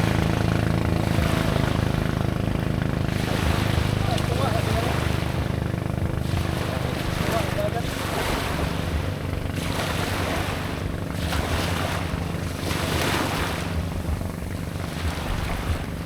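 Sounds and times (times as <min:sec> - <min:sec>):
boat engine droning: 0:00.0 - 0:16.0
sea water splashing: 0:00.0 - 0:16.0
wind buffeting microphone: 0:00.0 - 0:16.0.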